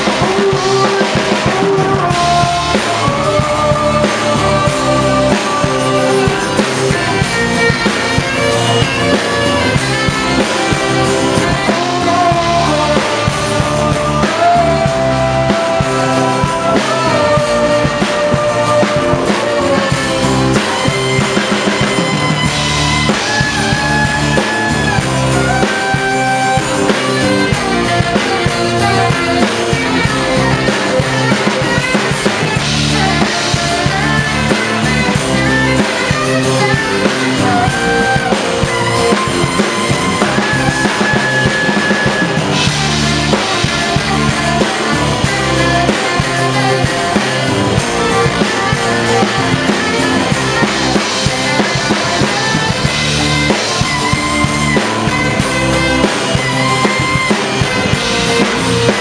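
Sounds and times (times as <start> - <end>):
drum kit beat: 0.0 - 59.0
electric bass: 0.0 - 59.0
electric guitar: 0.0 - 59.0
saxophone: 0.0 - 59.0.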